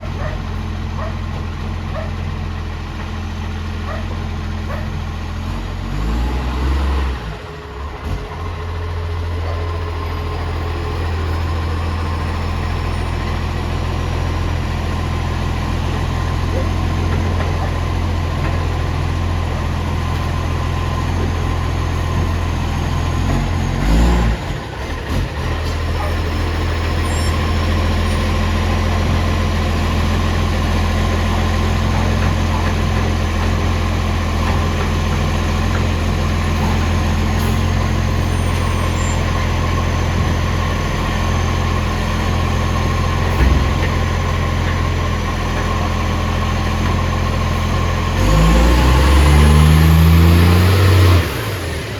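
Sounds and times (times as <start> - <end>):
bus engine idling with exhaust leak: 0.0 - 6.0, 7.2 - 51.9.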